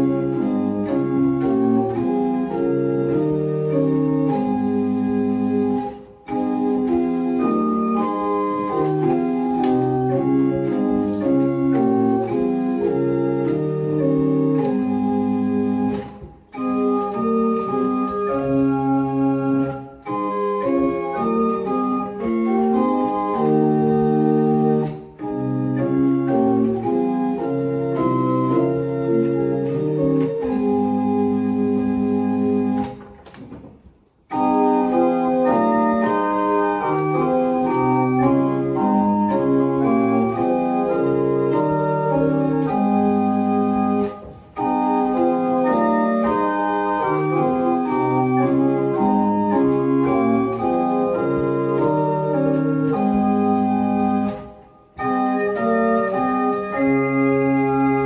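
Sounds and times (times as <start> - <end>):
chamber organ playing held chords: 0.0 - 33.2, 34.2 - 58.0.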